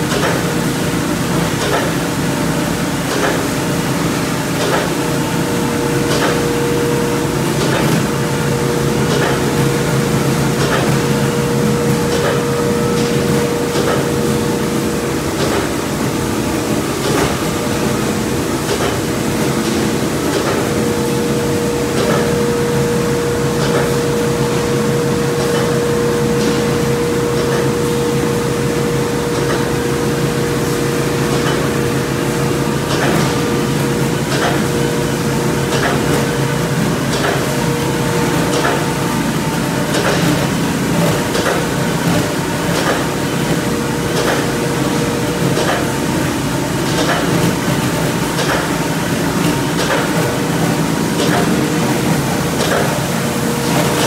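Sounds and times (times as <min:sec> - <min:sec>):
machine humming: 0:00.0 - 0:54.0.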